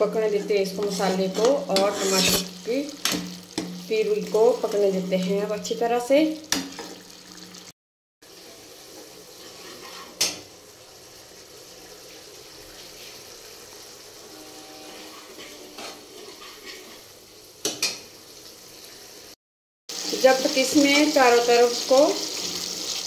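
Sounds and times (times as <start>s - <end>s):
masala sizzling in a pan: 0.0s - 23.0s.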